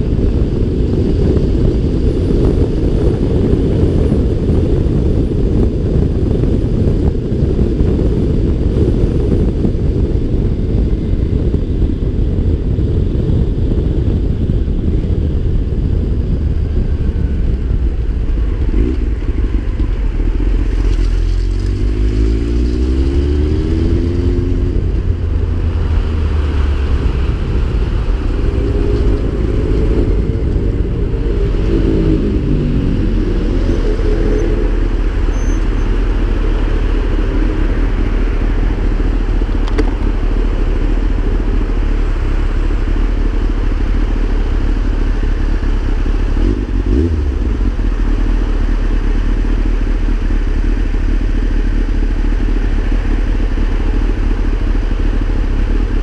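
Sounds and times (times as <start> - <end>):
motorcycle engine accelerating: 0.0 - 56.0
wind noise on microphone: 0.0 - 56.0.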